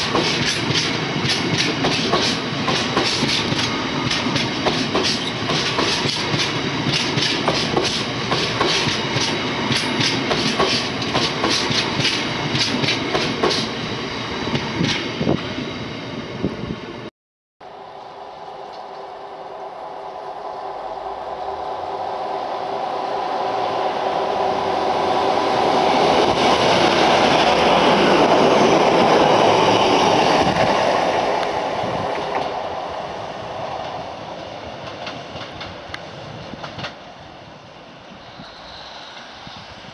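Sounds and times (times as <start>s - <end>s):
train wheels on rails: 0.0s - 17.1s, 23.7s - 39.9s
diesel train engine drone: 0.0s - 39.9s.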